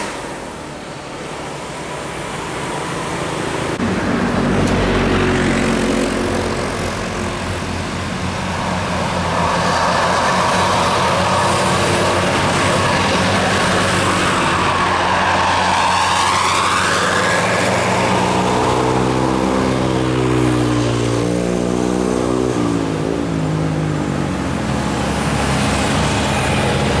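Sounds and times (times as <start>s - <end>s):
bus diesel engine passing: 0.0s - 27.0s.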